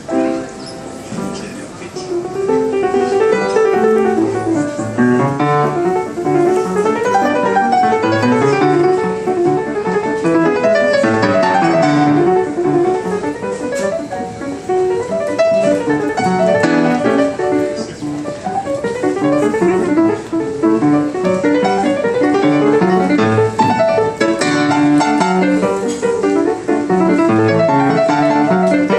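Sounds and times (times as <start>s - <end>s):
ragtime piano: 0.0s - 28.9s.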